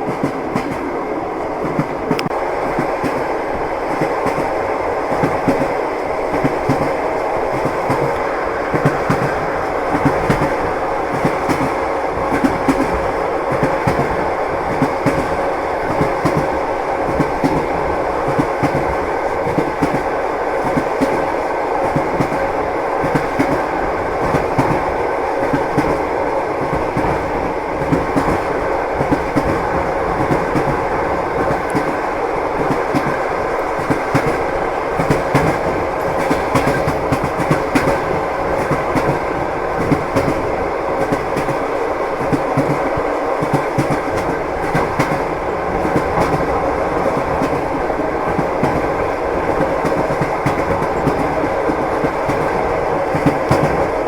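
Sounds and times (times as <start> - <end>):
train wheels clattering: 0.0 - 54.0.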